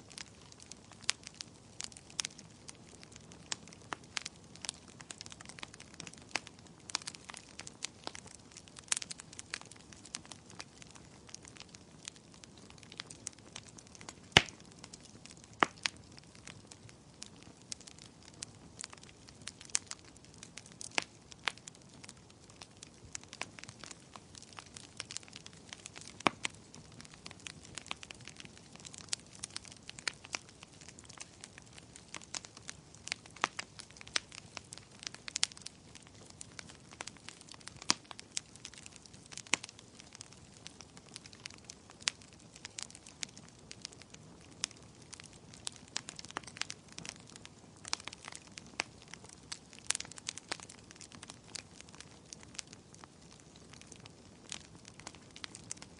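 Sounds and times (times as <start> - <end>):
fire crackling and popping: 0.0 - 55.9
low steady fire hiss: 0.0 - 55.9.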